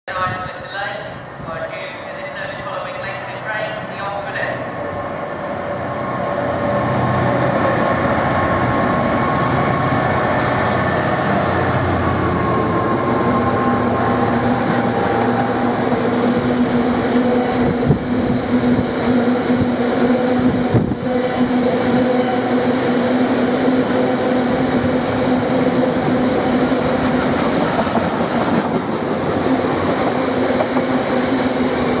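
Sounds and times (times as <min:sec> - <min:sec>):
diesel locomotive engine passing: 0:00.9 - 0:32.0.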